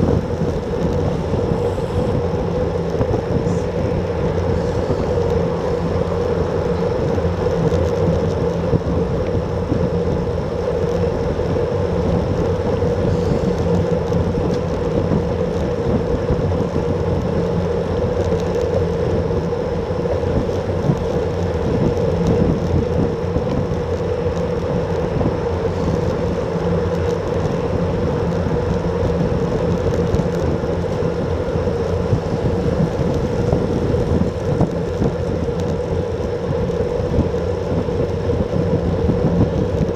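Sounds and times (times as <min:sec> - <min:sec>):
road noise: 0:00.0 - 0:39.9
wind rush: 0:00.0 - 0:39.9.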